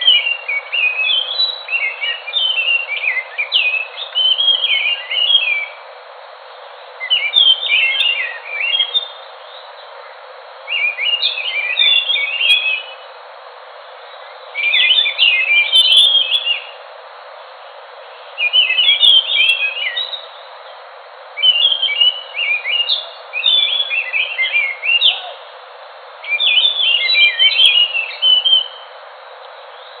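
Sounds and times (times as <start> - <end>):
thrush singing chirps and whistles: 0.0 - 5.9, 6.7 - 13.2, 14.0 - 16.8, 18.0 - 25.6, 26.2 - 30.0
steady hiss: 0.0 - 30.0.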